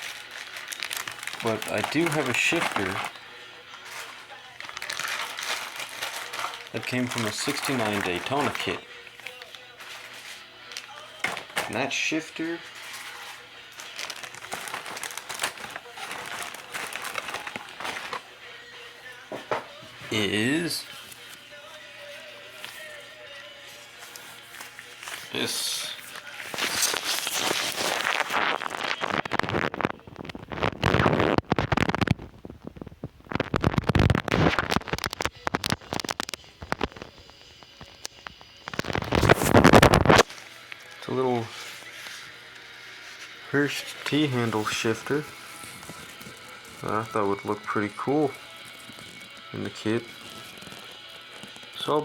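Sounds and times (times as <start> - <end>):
crinkling and rustling: 0.0 - 18.3, 19.2 - 52.0.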